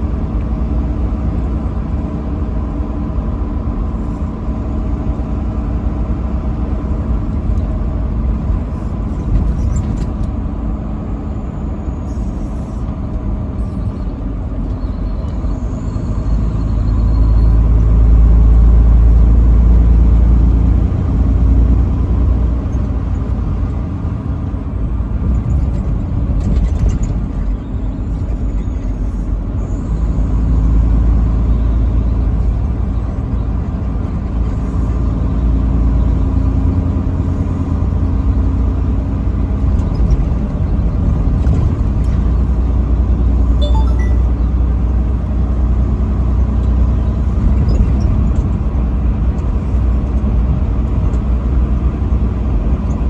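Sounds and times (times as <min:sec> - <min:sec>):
vehicle engine and road rumble: 0:00.0 - 0:53.0.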